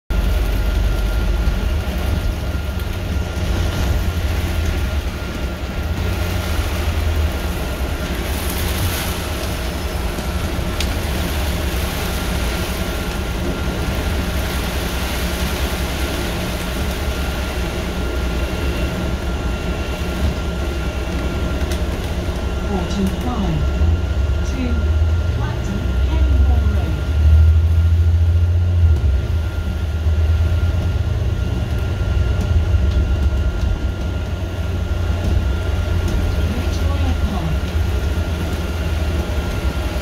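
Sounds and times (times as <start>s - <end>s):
bus engine and road rumble: 0.1s - 40.0s
faint steady whine: 0.1s - 40.0s.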